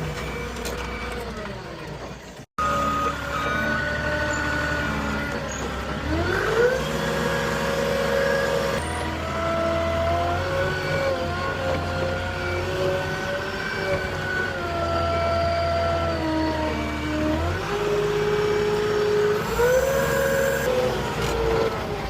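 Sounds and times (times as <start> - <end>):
heavy vehicle engine whining: 0.0 - 22.0.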